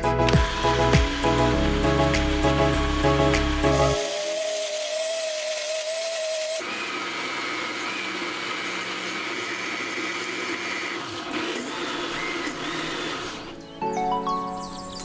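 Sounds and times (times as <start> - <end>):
blender motor churning: 0.0 - 13.6.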